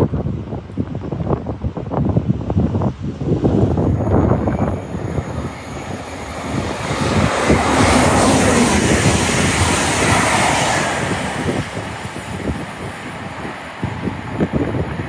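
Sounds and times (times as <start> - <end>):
train passing at speed: 0.9 - 15.0.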